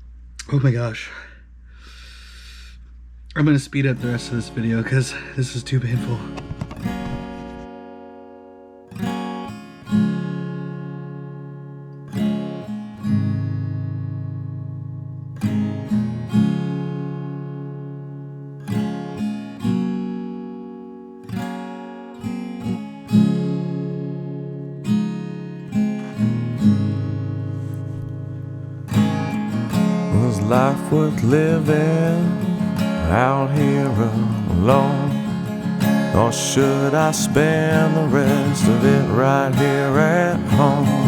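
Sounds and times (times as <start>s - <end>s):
acoustic guitar strumming chords: 3.8s - 41.0s.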